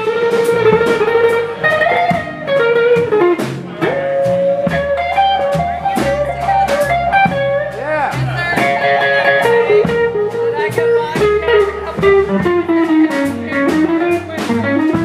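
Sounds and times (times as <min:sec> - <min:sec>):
drums: 0:00.0 - 0:15.0
electric guitar bending notes: 0:00.0 - 0:15.0
upright bass: 0:00.0 - 0:15.0.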